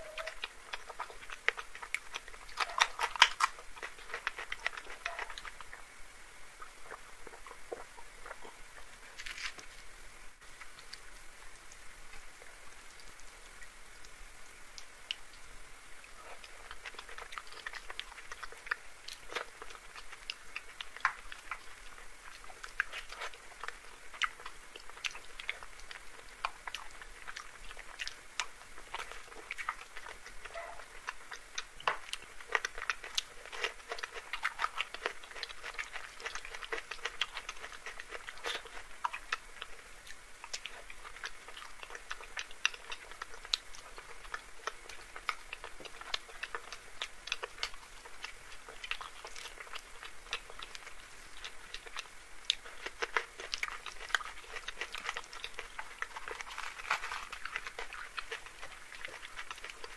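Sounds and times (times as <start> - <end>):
crunchy bites: 0.0 - 5.8, 6.6 - 9.8, 16.2 - 59.9
wet chewing clicks: 0.0 - 5.9, 16.0 - 59.9.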